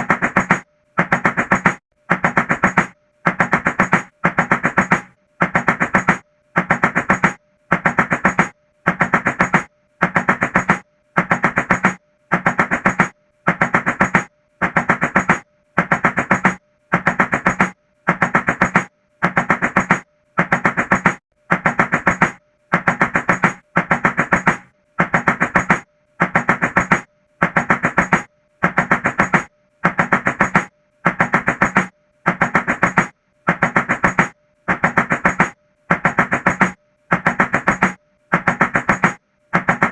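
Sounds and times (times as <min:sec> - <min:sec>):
rapid knocking on a door: 0:00.0 - 0:39.9.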